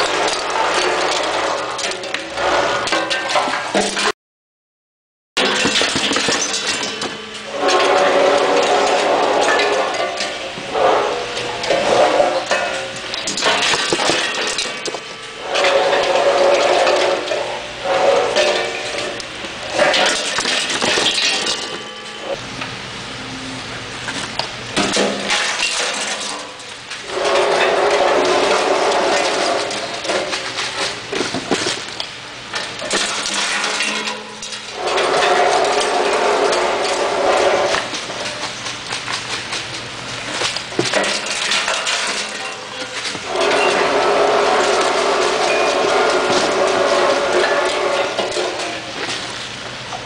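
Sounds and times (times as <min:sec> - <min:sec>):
pine cones clattering down metal spout: 0:00.0 - 0:04.1, 0:05.4 - 0:22.4, 0:24.2 - 0:50.0.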